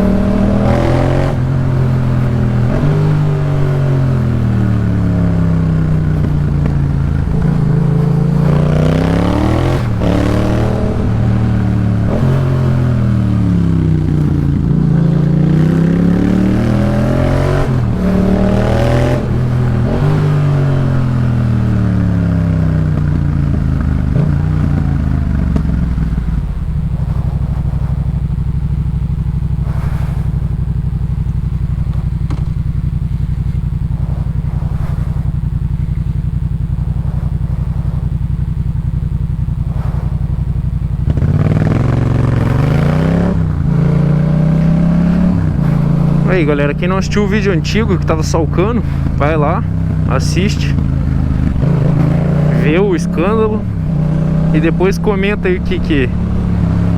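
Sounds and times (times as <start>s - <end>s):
motorcycle engine idling: 0.0s - 56.9s
motorcycle engine revving: 0.0s - 56.9s.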